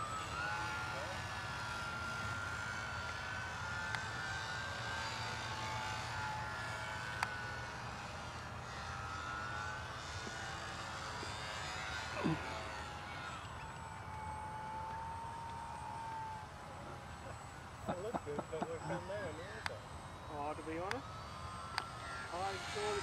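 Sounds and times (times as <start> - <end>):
model plane propellers whining: 0.0 - 23.0.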